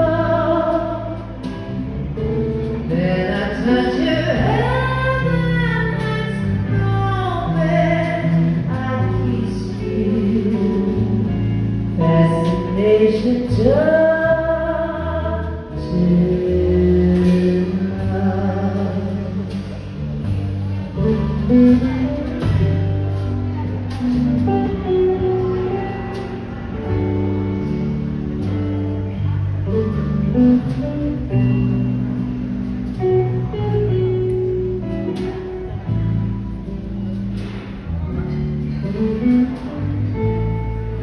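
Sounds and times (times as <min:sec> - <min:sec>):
drums keeping a steady beat: 0:00.0 - 0:13.9, 0:15.9 - 0:41.0
bass line: 0:00.0 - 0:41.0.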